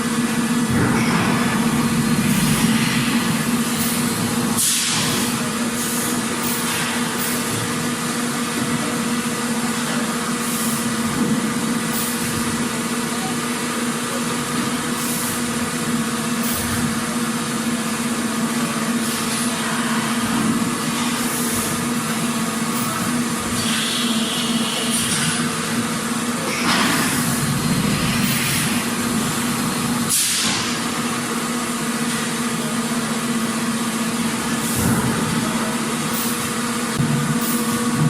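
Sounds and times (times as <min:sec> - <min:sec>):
machinery humming: 0:00.0 - 0:38.0.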